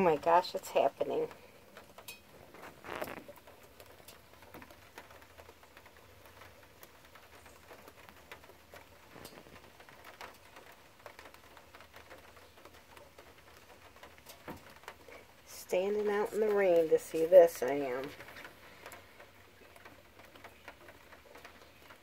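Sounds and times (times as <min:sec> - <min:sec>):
light rain dripping: 0:00.0 - 0:22.0.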